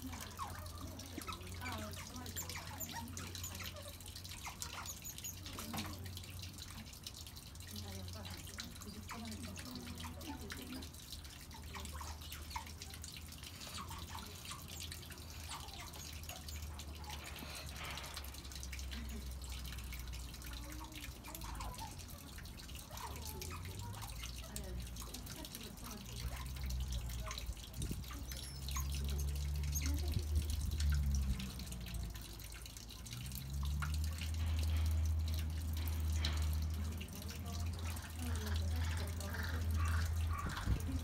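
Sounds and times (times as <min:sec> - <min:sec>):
water trickling and dripping: 0:00.0 - 0:41.0.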